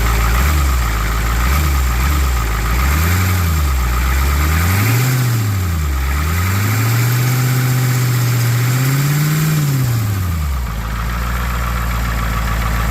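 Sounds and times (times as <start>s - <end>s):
diesel engine revving and idling: 0.0s - 12.9s.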